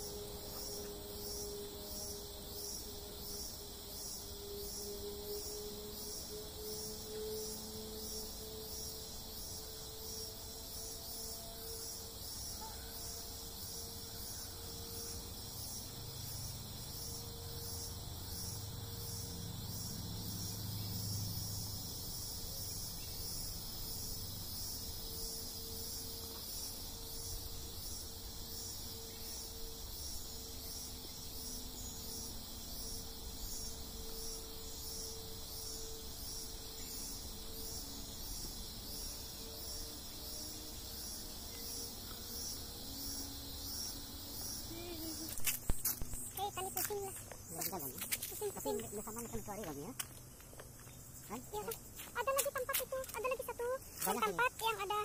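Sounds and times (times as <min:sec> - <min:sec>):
insects buzzing and trilling: 0:00.0 - 0:55.0.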